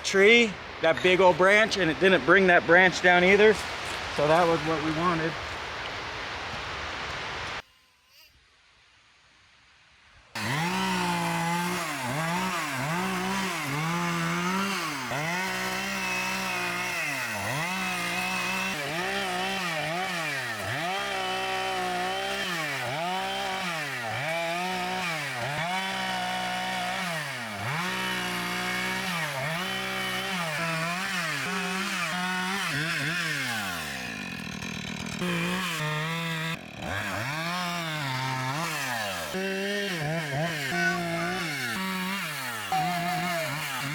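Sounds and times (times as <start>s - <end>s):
chainsaw revving and idling: 0.0s - 5.4s, 10.4s - 43.9s.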